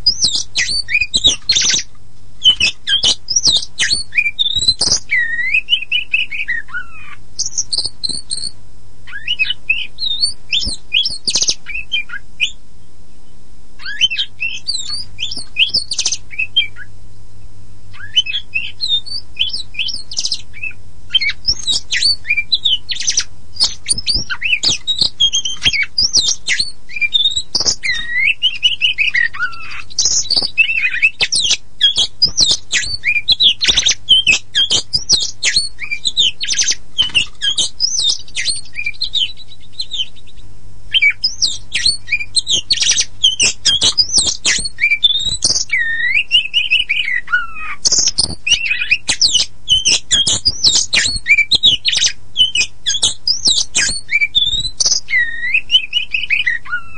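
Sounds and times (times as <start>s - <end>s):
bird singing varied song: 0.0s - 56.9s
faint low hum: 0.0s - 56.9s.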